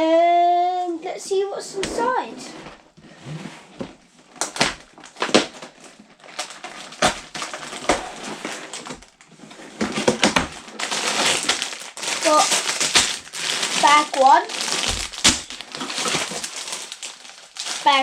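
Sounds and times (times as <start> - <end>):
cardboard box crackling and rustling: 1.8 - 18.0.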